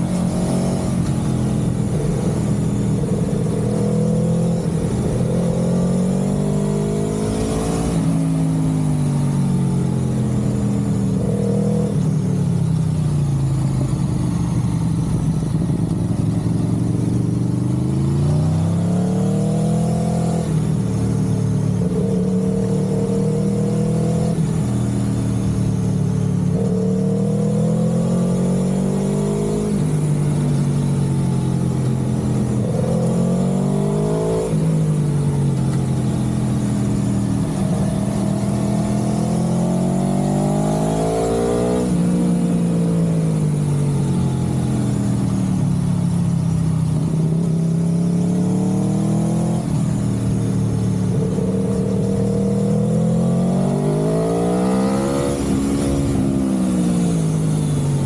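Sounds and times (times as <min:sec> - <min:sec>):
vehicle engine accelerating: 0:00.0 - 0:58.0.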